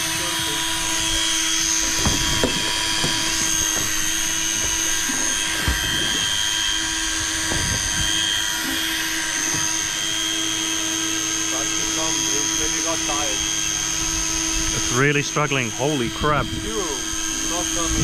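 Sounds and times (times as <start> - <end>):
electric fishing reel motor whining: 0.0 - 18.0.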